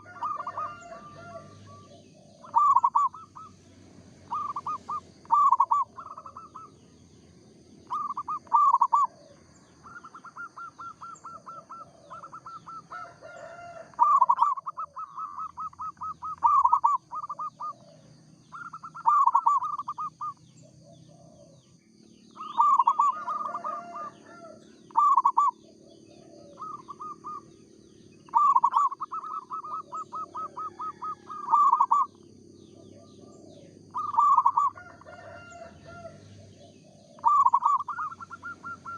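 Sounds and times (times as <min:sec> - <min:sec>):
dove cooing: 0:00.0 - 0:06.9, 0:07.8 - 0:38.9
fainter lower-pitched bird calls: 0:00.0 - 0:38.9
steady high-pitched whine: 0:00.0 - 0:38.9.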